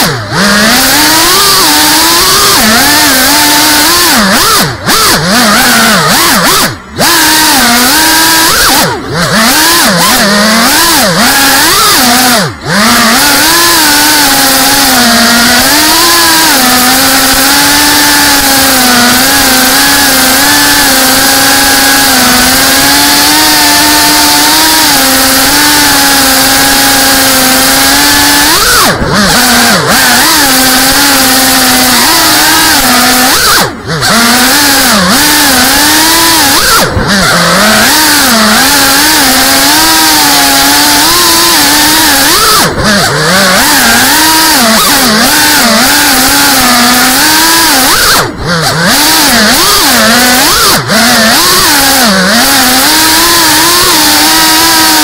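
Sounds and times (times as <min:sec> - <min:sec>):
drone motors buzzing: 0:00.0 - 0:55.0.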